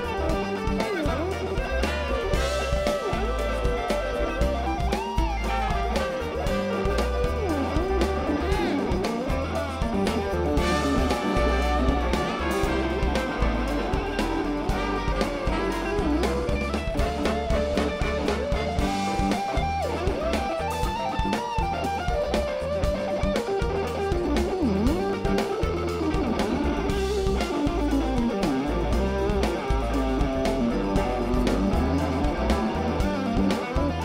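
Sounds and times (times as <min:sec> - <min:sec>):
bass and drums: 0:00.0 - 0:34.0
electric guitar solo: 0:00.0 - 0:34.0.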